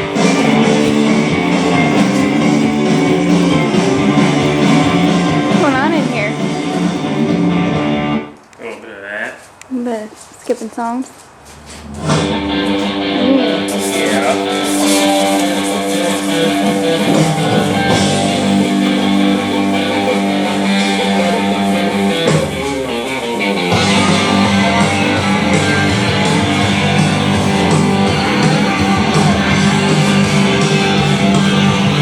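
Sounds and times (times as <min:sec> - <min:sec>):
guitar background music: 0:00.0 - 0:08.3, 0:12.0 - 0:32.0.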